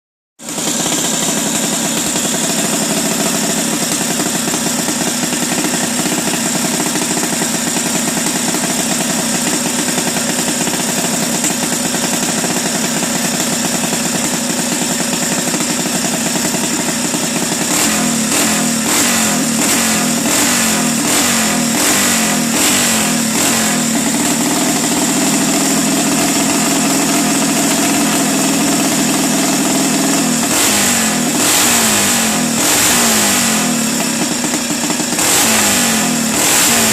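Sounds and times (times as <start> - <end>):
engine idling and revving: 0.4 - 36.9.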